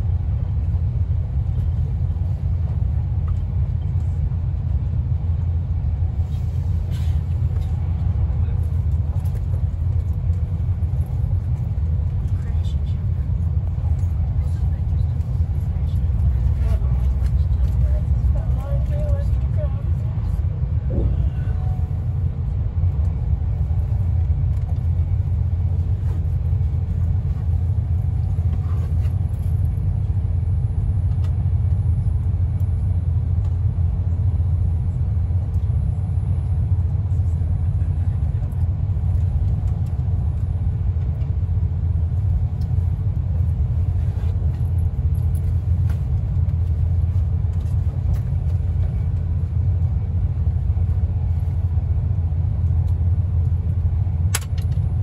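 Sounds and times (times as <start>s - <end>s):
train rumbling at speed: 0.0s - 55.0s.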